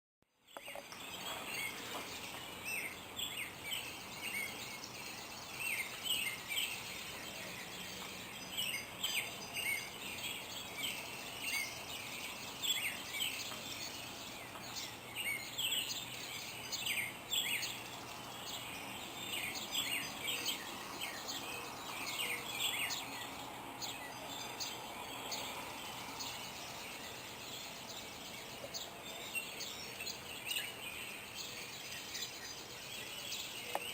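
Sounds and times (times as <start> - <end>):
songbirds chirping: 0.3 - 33.9
high bird trill: 0.6 - 33.8.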